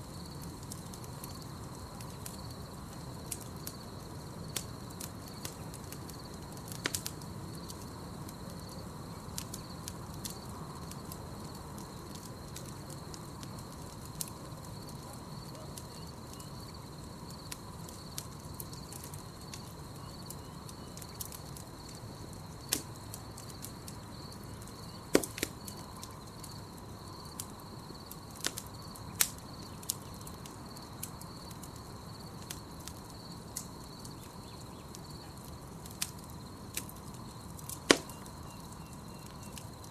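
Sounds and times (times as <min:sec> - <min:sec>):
campfire crackling and popping: 0:00.0 - 0:39.9
low rumble of flames: 0:00.0 - 0:39.9
night insects trilling: 0:00.0 - 0:39.9.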